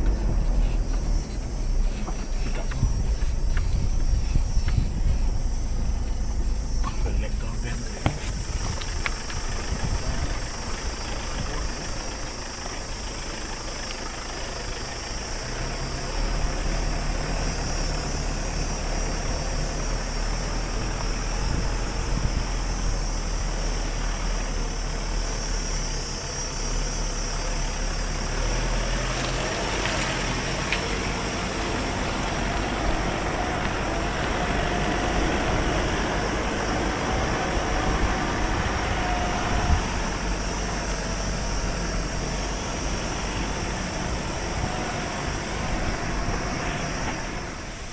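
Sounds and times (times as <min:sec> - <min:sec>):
car engine rumble: 0:00.0 - 0:47.9
road noise: 0:00.0 - 0:47.9.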